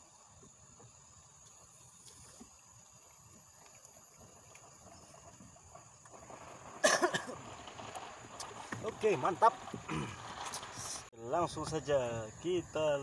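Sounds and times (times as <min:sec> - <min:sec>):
insects chorus shrill drone: 0:00.0 - 0:13.0.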